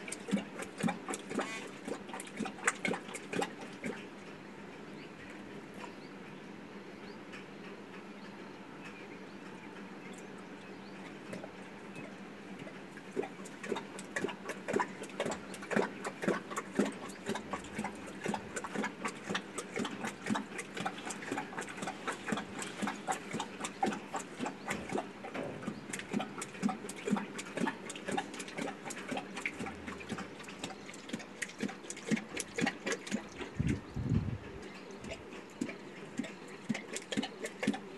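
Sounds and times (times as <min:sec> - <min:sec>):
lioness lapping water: 0:00.0 - 0:37.9.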